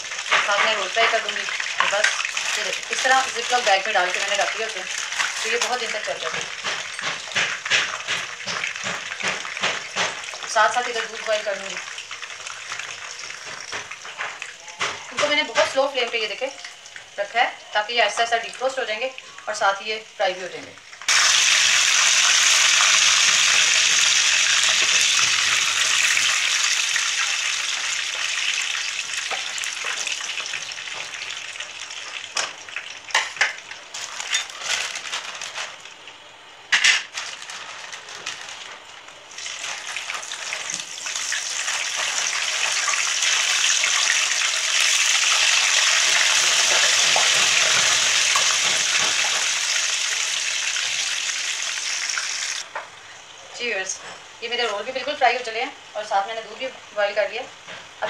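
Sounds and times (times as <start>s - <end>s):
hot oil sizzling in a frying pan: 0.0s - 58.0s.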